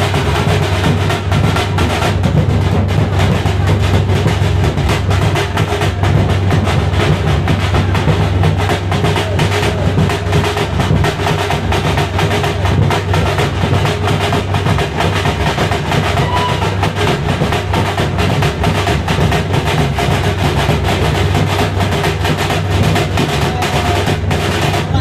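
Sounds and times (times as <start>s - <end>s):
group of drums beating: 0.0s - 25.0s.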